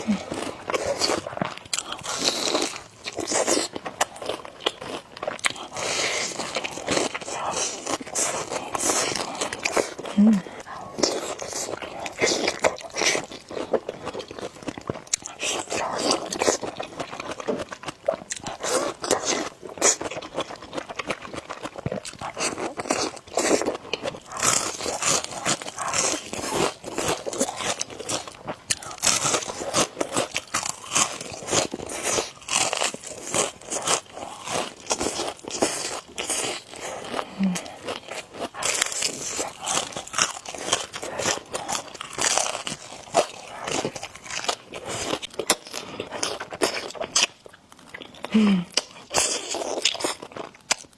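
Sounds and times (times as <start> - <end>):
person chewing noodles: 0.0 - 50.9.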